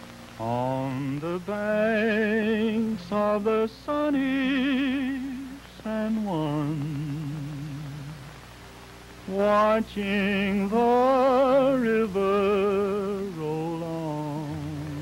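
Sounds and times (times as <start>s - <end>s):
man singing wordless melody: 0.3s - 8.5s, 9.2s - 15.0s.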